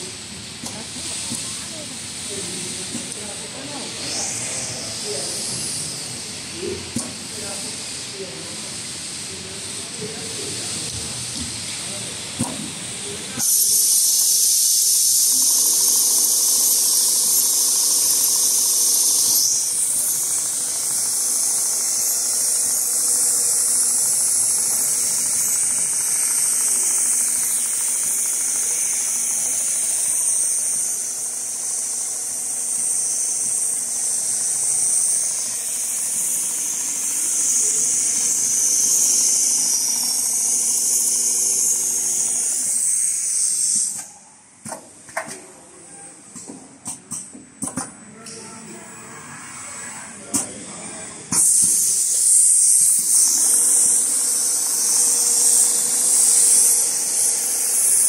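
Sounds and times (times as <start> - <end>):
compressed air hiss: 0.0 - 44.2, 51.3 - 58.0.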